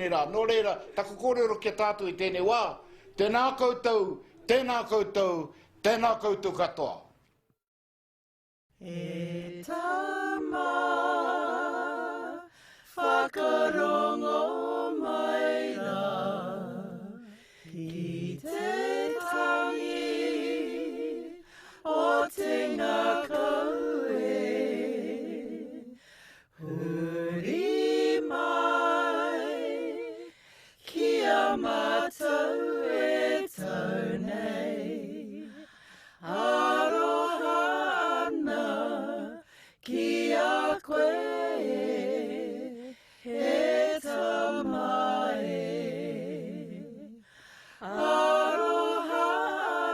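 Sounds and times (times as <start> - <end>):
voices singing unaccompanied: 8.8 - 49.9.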